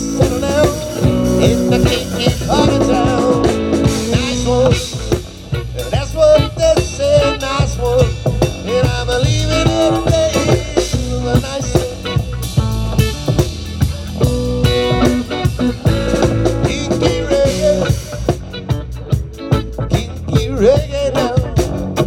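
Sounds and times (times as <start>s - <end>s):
live reggae band playing: 0.0s - 22.0s
wavering lead melody: 0.0s - 22.0s.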